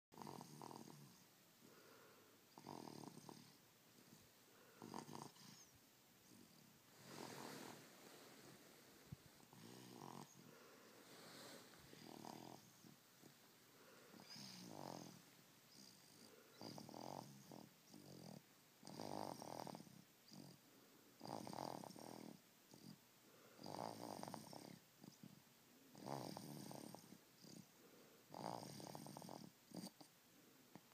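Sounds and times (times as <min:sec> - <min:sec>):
baby snoring quietly: 0:00.2 - 0:30.9.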